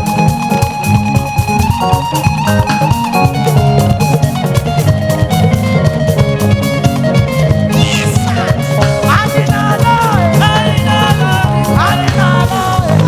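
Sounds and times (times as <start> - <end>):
bass: 0.0 - 13.0
drum kit beat: 0.0 - 13.0
electric guitar lines: 0.0 - 13.0.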